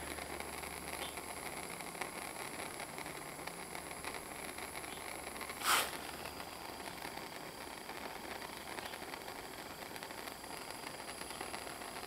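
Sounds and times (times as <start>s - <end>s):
propane torch hissing: 0.0s - 12.0s.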